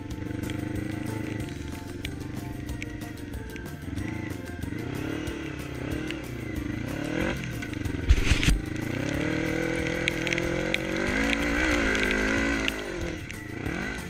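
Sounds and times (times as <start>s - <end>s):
quad engine running under load: 0.0s - 14.0s.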